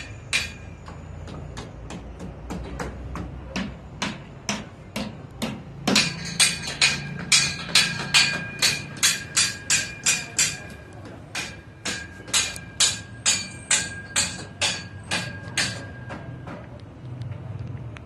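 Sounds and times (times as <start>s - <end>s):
hammer striking metal: 0.0s - 16.7s.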